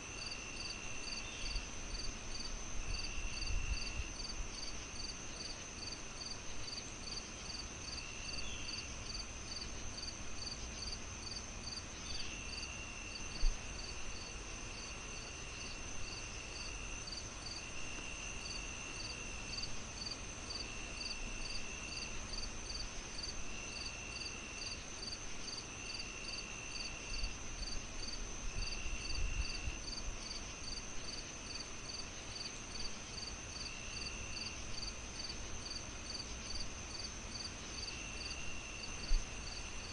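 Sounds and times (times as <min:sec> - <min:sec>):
crickets chirping: 0:00.0 - 0:39.9
high insect drone: 0:00.0 - 0:39.9.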